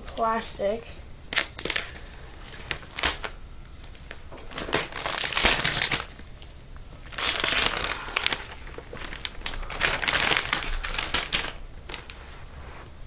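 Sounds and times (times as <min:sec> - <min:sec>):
plastic film crinkling as peeled: 0:01.3 - 0:12.5.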